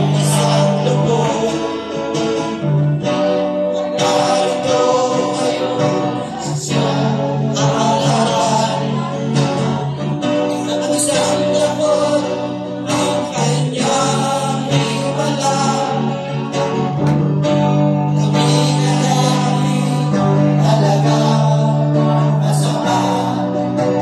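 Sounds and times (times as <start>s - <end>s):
men singing gospel song: 0.0s - 16.5s, 18.1s - 24.0s
electric guitar playing: 0.0s - 24.0s.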